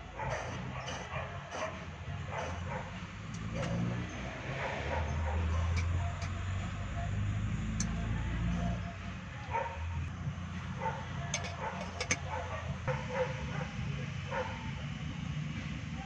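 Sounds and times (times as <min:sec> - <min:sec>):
dog barking and yipping: 0:00.0 - 0:09.9, 0:10.8 - 0:14.6
low steady rumble: 0:00.0 - 0:16.0.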